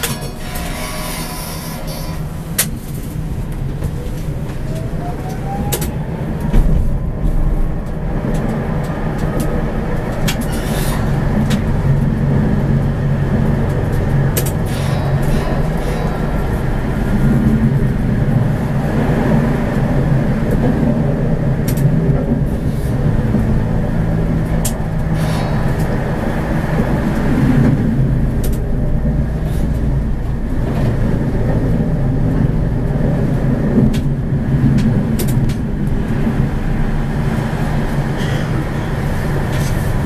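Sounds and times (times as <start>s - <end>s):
tram wheels and motors rumbling: 0.0s - 40.0s.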